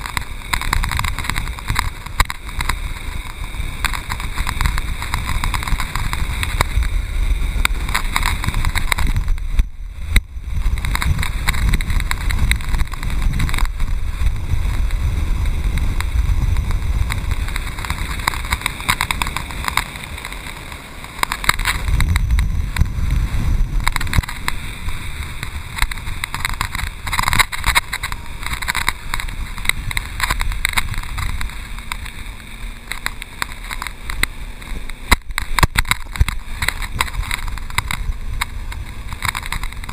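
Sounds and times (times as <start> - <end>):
water rushing and splashing: 0.0 - 39.9
wind buffeting microphone: 0.0 - 39.9.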